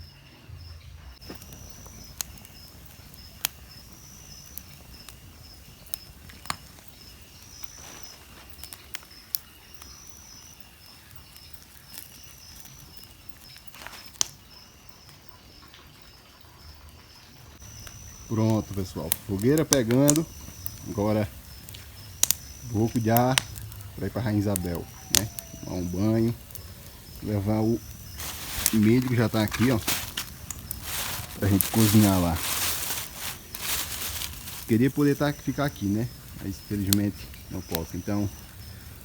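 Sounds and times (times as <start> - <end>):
insects chirping: 0.0 - 39.0
bonfire crackling and popping: 1.1 - 39.0.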